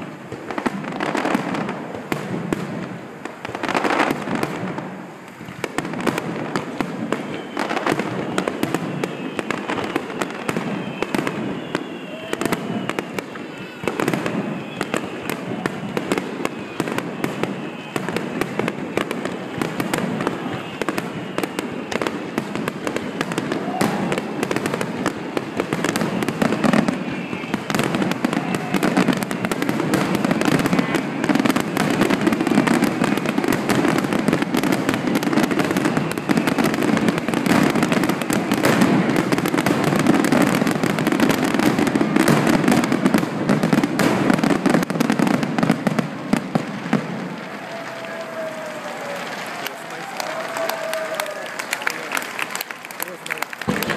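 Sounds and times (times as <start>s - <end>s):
fireworks bursts and crackling: 0.0s - 53.9s.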